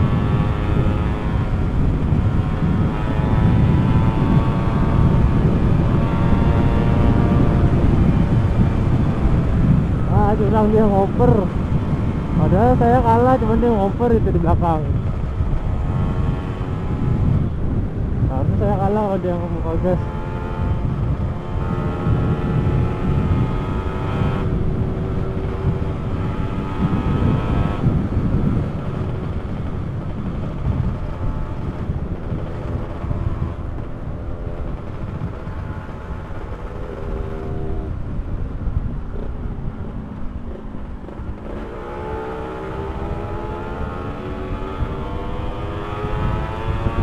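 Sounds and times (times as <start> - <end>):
motorcycle engine running: 0.0 - 47.0
wind rumble on microphone: 0.0 - 47.0.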